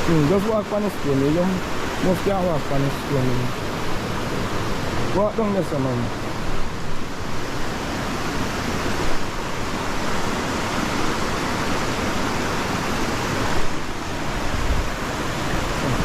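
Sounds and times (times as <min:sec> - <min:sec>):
river water rushing over stones: 0:00.0 - 0:16.0.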